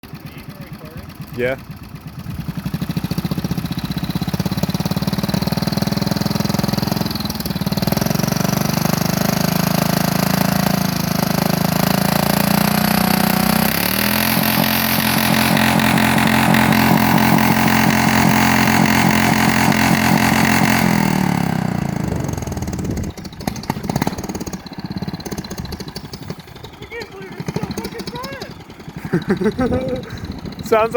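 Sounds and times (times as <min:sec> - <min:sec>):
engine revving at full throttle: 0:00.0 - 0:30.9.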